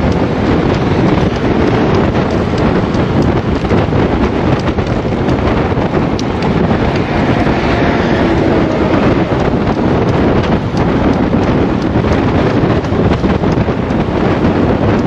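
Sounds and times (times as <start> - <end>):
bike rumbling on road: 0.0 - 15.0
wind rushing over microphone: 0.0 - 15.0.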